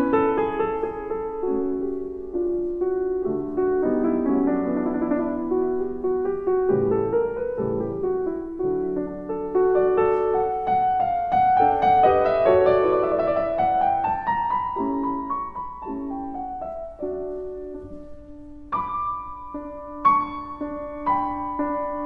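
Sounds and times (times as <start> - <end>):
solo grand piano playing: 0.0 - 22.0.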